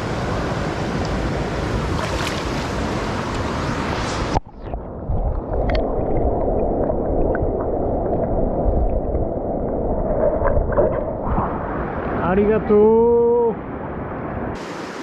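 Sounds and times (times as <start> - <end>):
muffled stream water rushing: 0.0 - 15.0.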